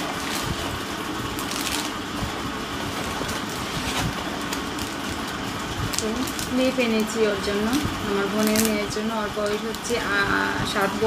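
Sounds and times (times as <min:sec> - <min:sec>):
low machine hum: 0:00.0 - 0:11.0
paper bag rustling: 0:00.0 - 0:11.0
plastic packet rustling: 0:00.0 - 0:11.0.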